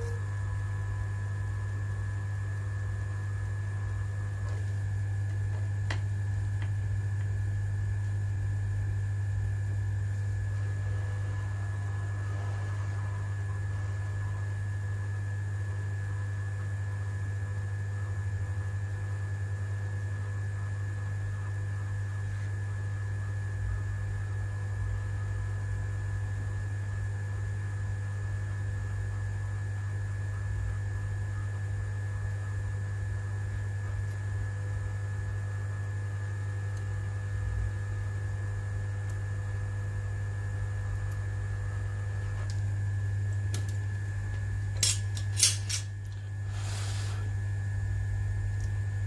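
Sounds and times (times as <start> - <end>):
hot-air blower humming with whine: 0.0 - 49.0.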